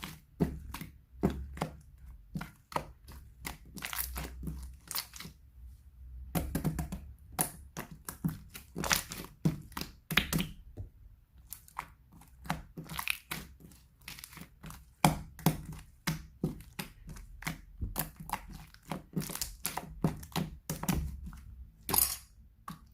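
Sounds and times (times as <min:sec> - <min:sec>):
hands squishing slime: 0:00.0 - 0:22.9.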